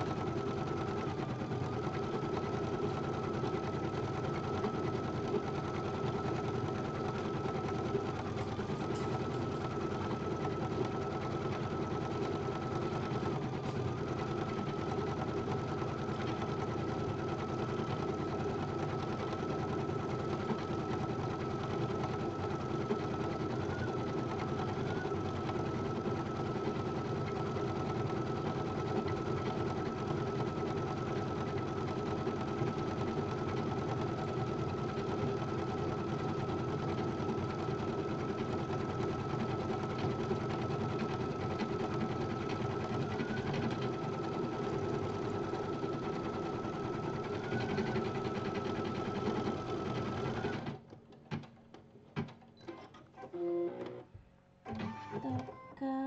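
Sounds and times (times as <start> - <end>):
embroidery machine stitching: 0.0 - 51.5.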